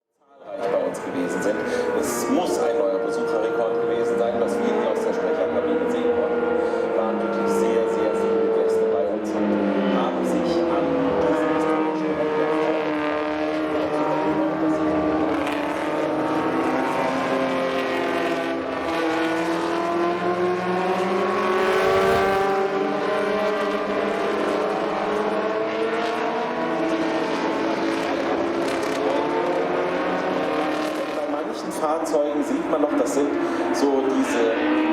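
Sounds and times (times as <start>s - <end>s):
racing car engines revving: 0.4s - 34.9s.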